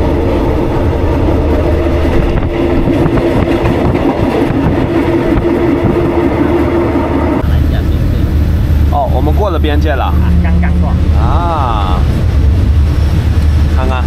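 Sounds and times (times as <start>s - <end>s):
steady hum: 0.0s - 14.0s
train wheels rumbling: 0.0s - 14.0s.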